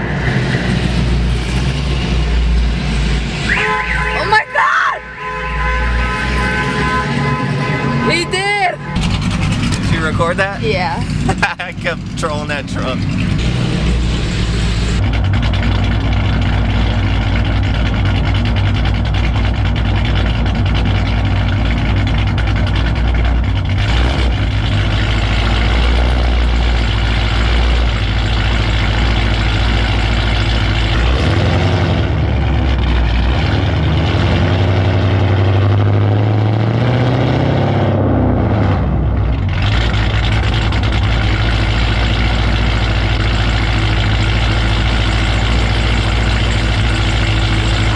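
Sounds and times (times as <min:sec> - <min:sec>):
loud choppy car engine: 0:00.0 - 0:47.9.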